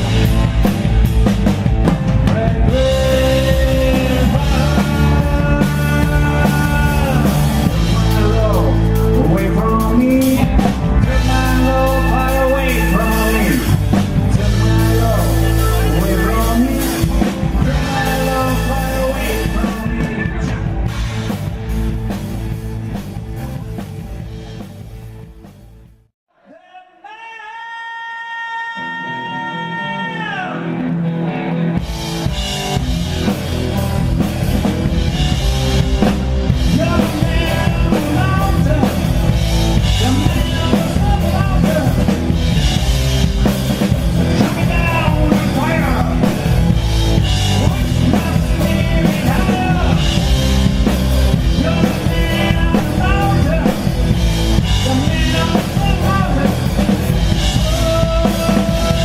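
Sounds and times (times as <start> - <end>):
rock band playing: 0.0 - 26.1, 29.0 - 59.0.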